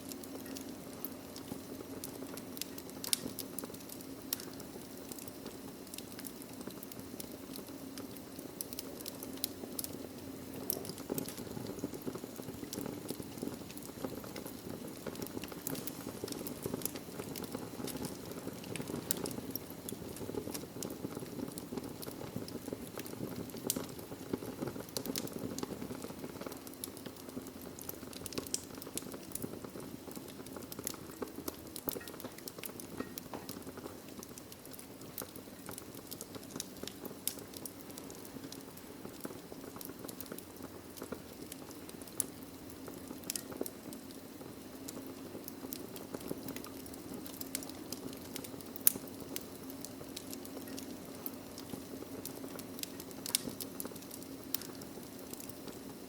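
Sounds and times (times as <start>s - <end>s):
fireplace logs crackling: 0.0s - 56.0s.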